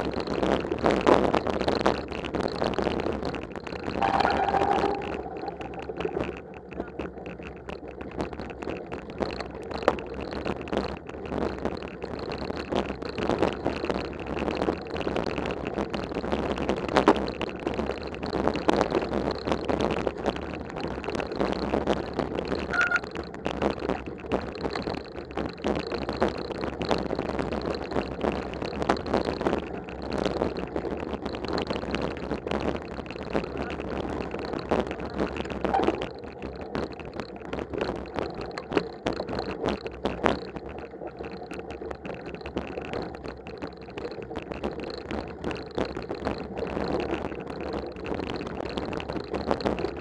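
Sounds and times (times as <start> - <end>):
bike rattling over snow: 0.0 - 50.0.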